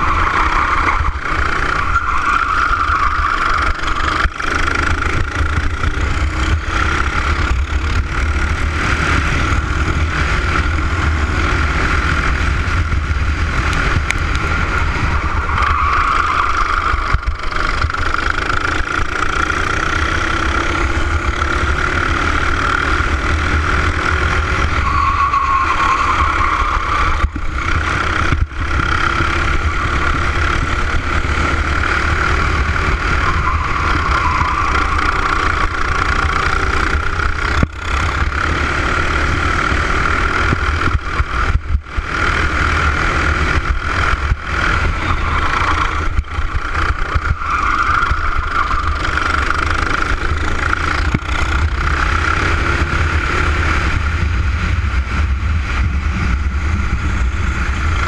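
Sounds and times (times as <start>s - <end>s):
kart engine high wavering note: 0.0s - 58.0s.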